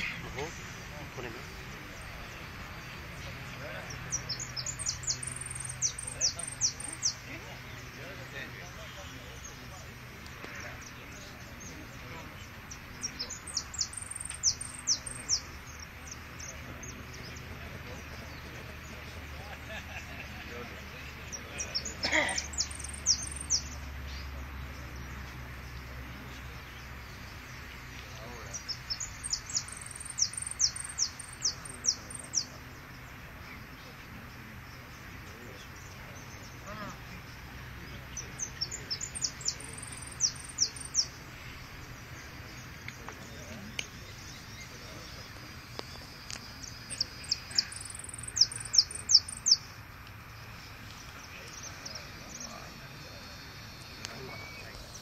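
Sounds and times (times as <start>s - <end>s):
finch singing high chirps: 0.0s - 9.9s, 10.7s - 19.1s, 21.2s - 25.1s, 25.7s - 33.9s, 35.6s - 49.8s.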